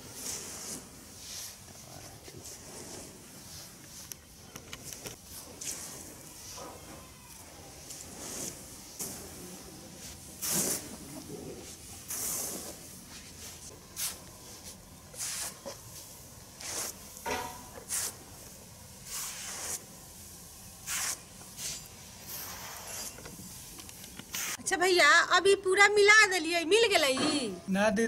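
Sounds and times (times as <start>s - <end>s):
dry feed swishing on concrete: 0.0s - 4.1s, 5.1s - 17.2s, 17.8s - 24.6s.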